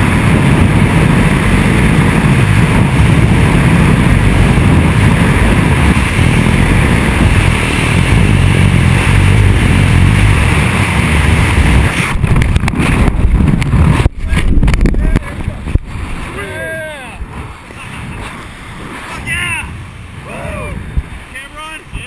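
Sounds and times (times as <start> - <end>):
wind roaring on microphone: 0.0 - 22.0.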